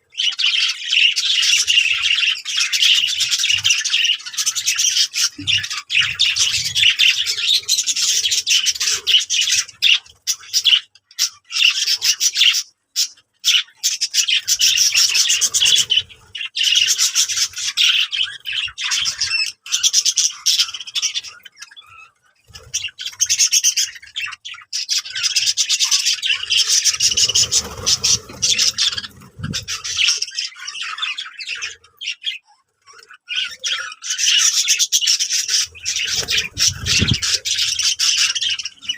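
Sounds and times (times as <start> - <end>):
birds chirping and squawking: 0.0 - 38.9.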